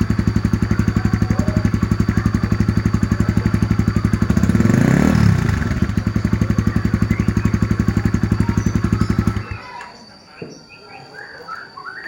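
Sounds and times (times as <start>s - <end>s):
motorcycle engine idling and revving: 0.0s - 9.8s.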